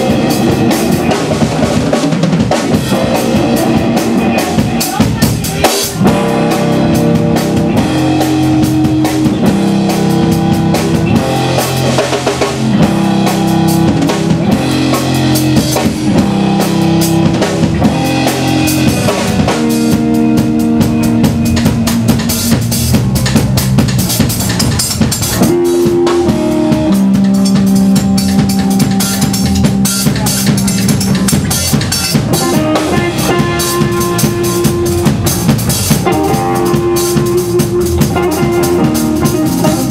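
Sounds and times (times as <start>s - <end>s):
blues band playing: 0.0s - 39.9s
drum kit beat: 0.0s - 39.9s.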